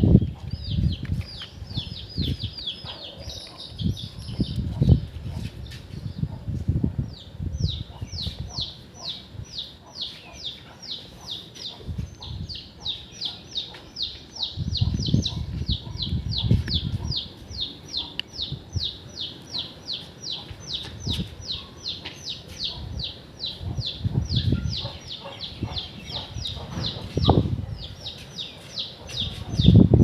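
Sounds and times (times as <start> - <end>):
bird chirping: 0.0 - 6.4, 7.0 - 30.0.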